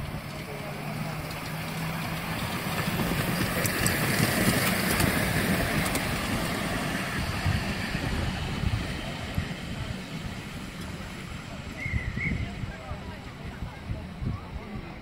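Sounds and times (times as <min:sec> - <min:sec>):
miniature train rumbling past: 0:00.0 - 0:15.0.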